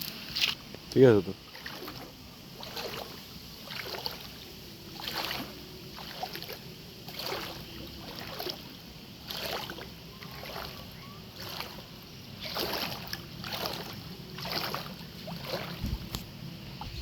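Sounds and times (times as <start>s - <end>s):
floodwater sloshing and splashing: 0.0s - 17.0s.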